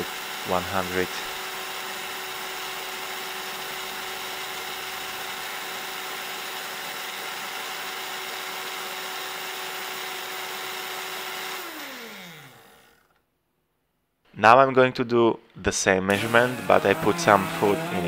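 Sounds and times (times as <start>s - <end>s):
smoothie maker motor whining: 0.0s - 13.3s, 16.1s - 18.0s.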